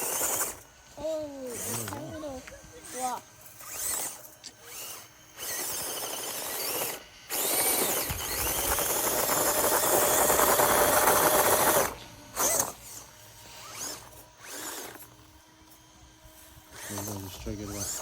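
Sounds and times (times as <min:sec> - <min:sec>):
small electric motor whirring: 0:00.0 - 0:18.0.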